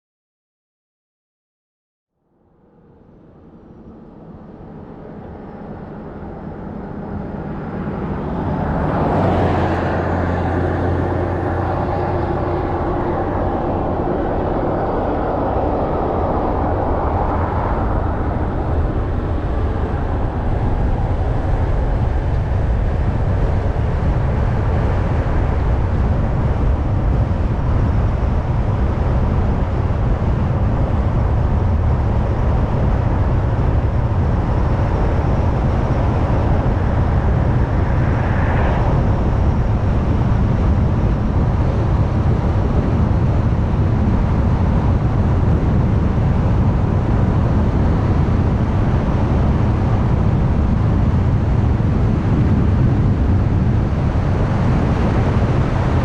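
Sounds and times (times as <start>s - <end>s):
road and tyre noise: 2.3s - 56.0s
car engine hum: 3.9s - 56.0s.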